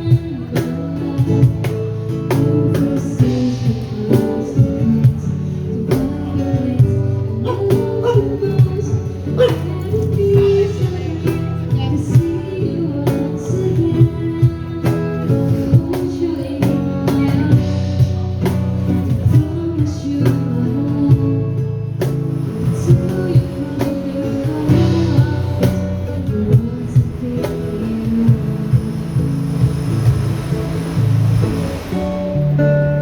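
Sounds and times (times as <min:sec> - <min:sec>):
person singing: 0:00.0 - 0:21.8, 0:22.5 - 0:29.4
drum kit beat: 0:00.0 - 0:32.9
electric guitar: 0:00.0 - 0:33.0.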